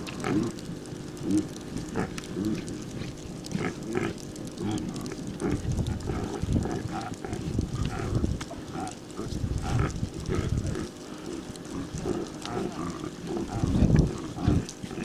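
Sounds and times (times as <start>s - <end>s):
reindeer grunting: 0.0s - 0.6s, 1.2s - 15.0s.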